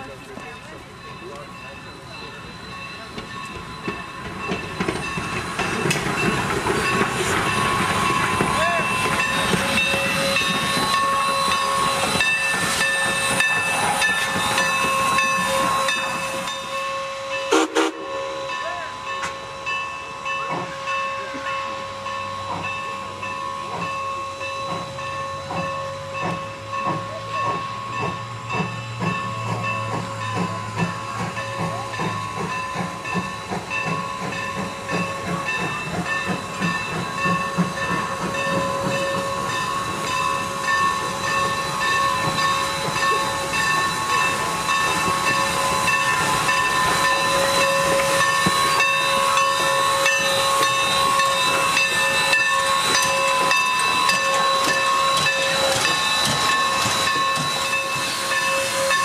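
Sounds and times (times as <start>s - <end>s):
steam hissing: 0.0s - 59.0s.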